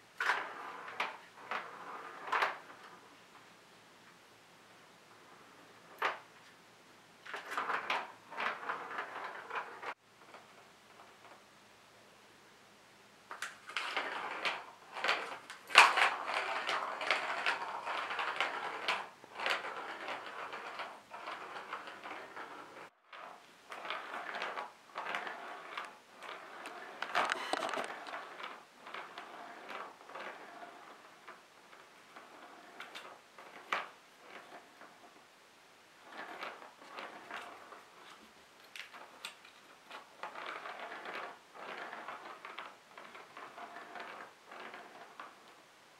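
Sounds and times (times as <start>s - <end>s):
plastic ball rattling on plastic track: 0.2s - 3.1s, 5.2s - 6.3s, 7.2s - 11.4s, 13.3s - 35.2s, 36.0s - 45.7s.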